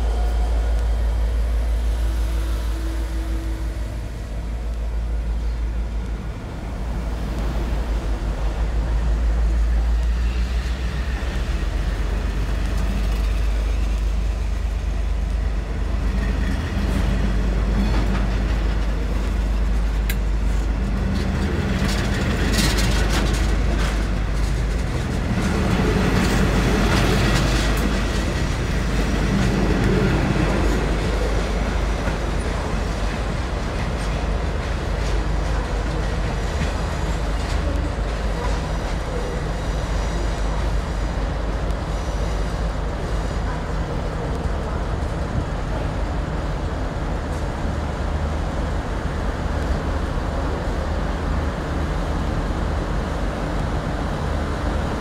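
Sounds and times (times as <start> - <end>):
train wheels rumbling over rails: 0.0 - 55.0.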